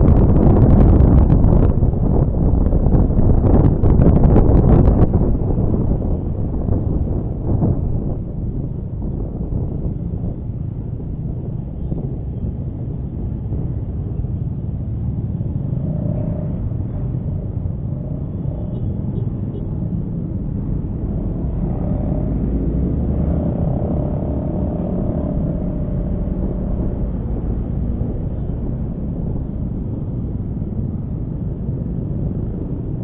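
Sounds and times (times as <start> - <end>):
wind and road noise: 0.0 - 33.0.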